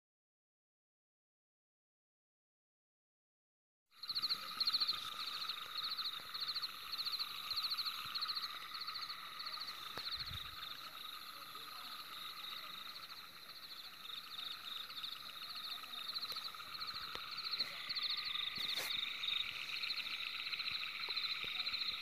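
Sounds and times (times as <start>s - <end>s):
frogs calling: 4.0s - 22.0s
high insect hiss: 4.0s - 22.0s.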